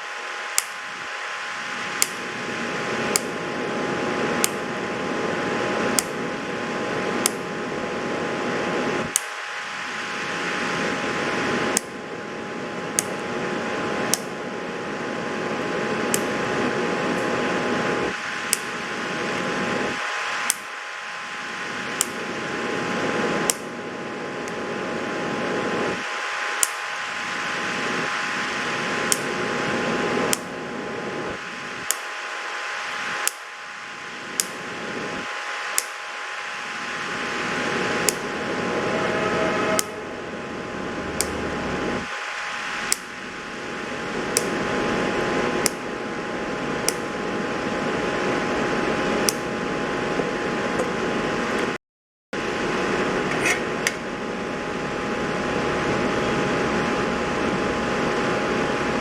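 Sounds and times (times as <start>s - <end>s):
fan-like whirring: 0.0s - 51.8s, 52.4s - 59.0s.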